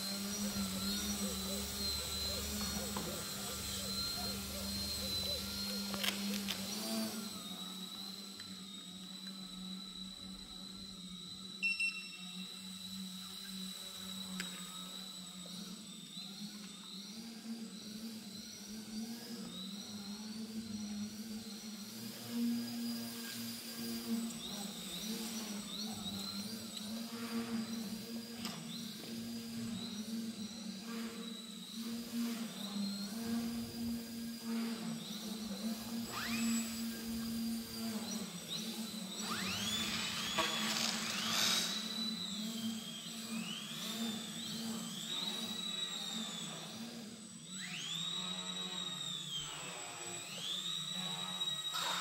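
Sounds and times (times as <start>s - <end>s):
model plane motor buzzing: 0.0s - 52.0s.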